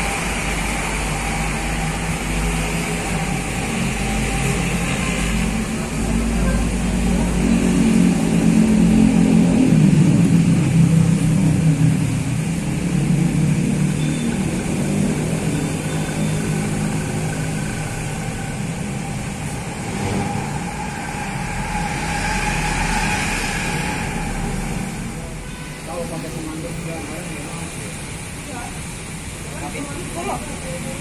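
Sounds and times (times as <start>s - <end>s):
bus diesel engine pulling away: 0.0s - 29.4s.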